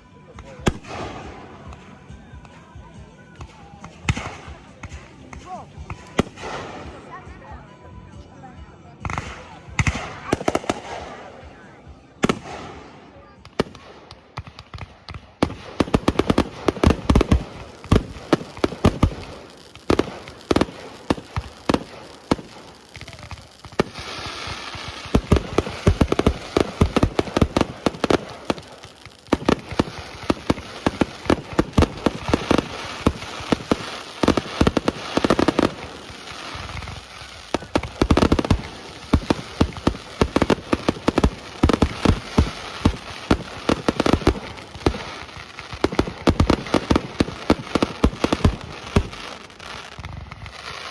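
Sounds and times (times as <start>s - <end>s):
firework crackling: 0.0s - 2.0s, 3.4s - 7.2s, 9.1s - 50.9s.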